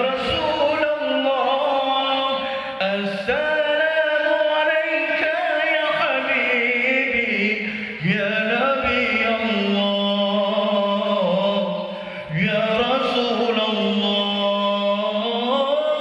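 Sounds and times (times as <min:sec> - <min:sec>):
man chanting melismatically: 0:00.0 - 0:16.0.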